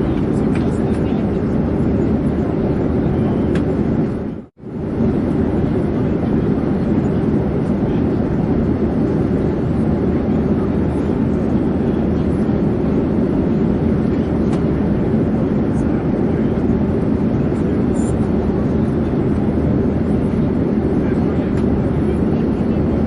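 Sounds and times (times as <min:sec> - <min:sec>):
airplane roar in flight: 0:00.0 - 0:23.0.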